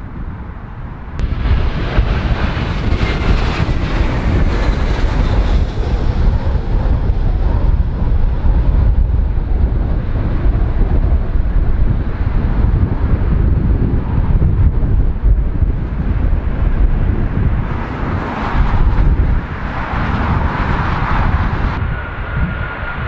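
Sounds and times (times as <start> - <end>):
jet airliner engine noise: 0.0 - 23.0
wind buffeting microphone: 0.0 - 23.0.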